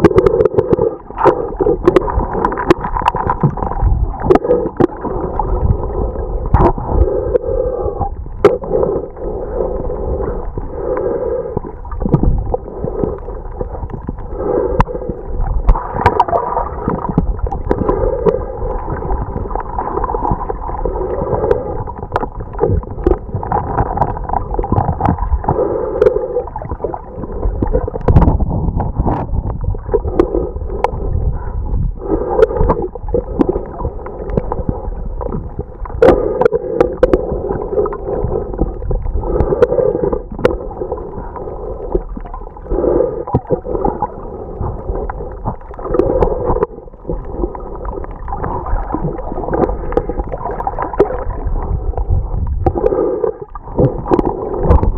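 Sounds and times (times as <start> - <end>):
underwater churning and gurgling: 0.0 - 54.9.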